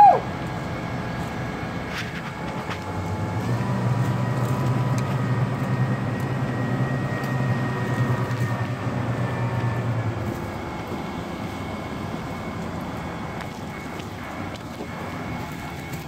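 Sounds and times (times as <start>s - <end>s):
crane truck engine running: 0.0s - 16.0s
faint steady whine: 0.0s - 16.0s.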